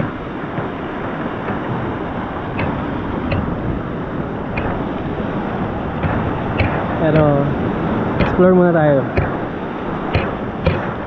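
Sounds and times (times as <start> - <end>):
surf breaking on rocks: 0.0 - 11.0.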